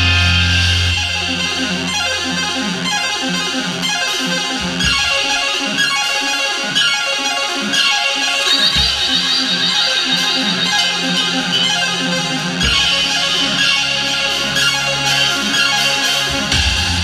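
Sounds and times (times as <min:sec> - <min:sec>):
synthesizer and guitar music: 0:00.0 - 0:17.0.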